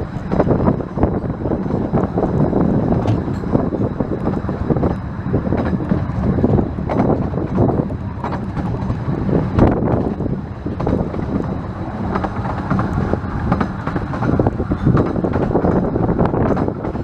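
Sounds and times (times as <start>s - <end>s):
steam train running: 0.0s - 17.0s
wind buffeting microphone: 0.0s - 17.0s.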